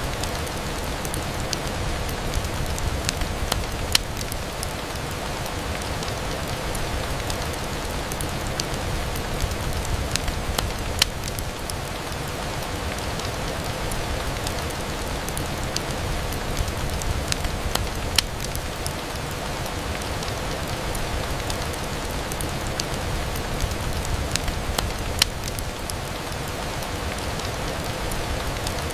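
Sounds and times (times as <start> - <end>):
rain on a window: 0.0 - 28.9.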